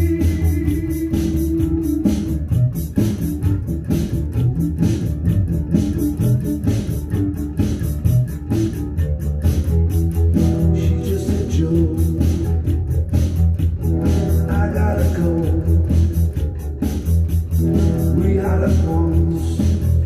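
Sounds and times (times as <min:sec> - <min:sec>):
electric bass line: 0:00.0 - 0:20.0
rock band playing: 0:00.0 - 0:20.0.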